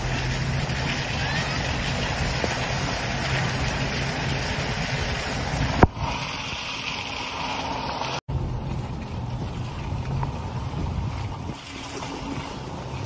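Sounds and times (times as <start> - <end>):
rain: 0.0 - 13.0
vehicle engine hum: 0.0 - 13.0
wind: 0.0 - 13.0.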